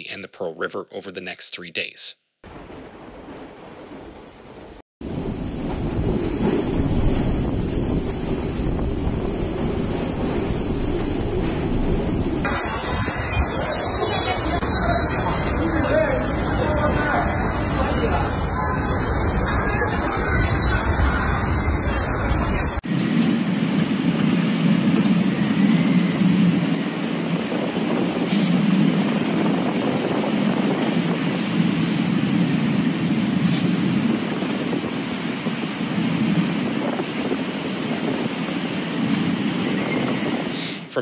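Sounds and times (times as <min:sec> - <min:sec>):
rain and strong wind: 0:02.4 - 0:41.0.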